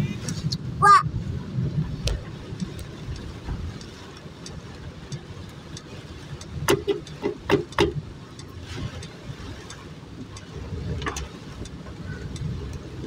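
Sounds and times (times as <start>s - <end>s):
rain: 0.0s - 13.0s
vehicle driving on wet road: 0.0s - 13.0s.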